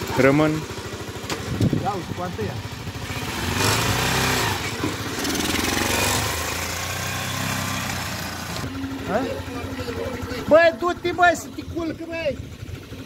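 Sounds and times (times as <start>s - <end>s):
quad bike engine revving: 0.0s - 13.0s.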